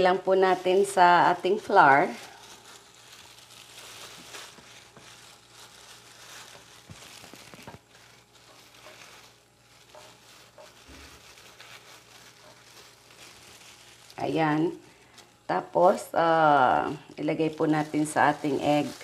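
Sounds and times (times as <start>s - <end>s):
plastic gloves crinkling: 0.0s - 19.0s.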